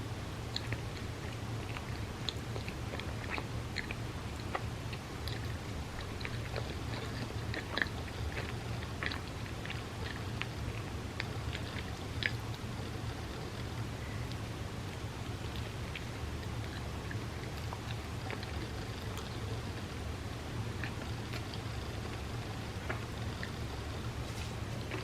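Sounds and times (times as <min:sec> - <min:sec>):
steady low hum: 0:00.0 - 0:25.0
chewing with wet mouth clicks: 0:00.3 - 0:25.0.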